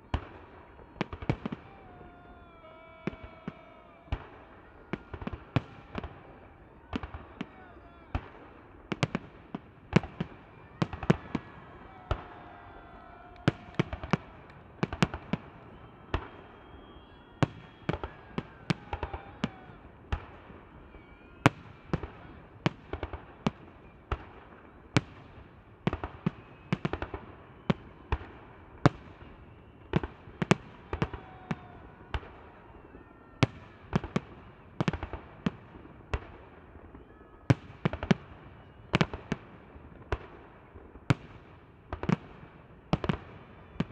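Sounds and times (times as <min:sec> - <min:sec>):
fireworks bursting with sharp bangs: 0:00.0 - 0:43.9.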